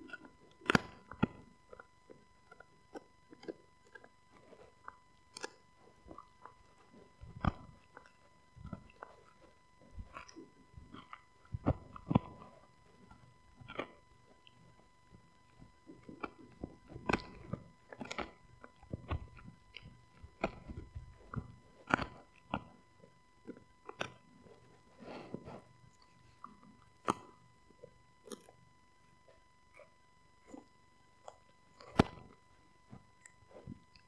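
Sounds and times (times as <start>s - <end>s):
dog gnawing a chew bone: 0.0s - 34.0s.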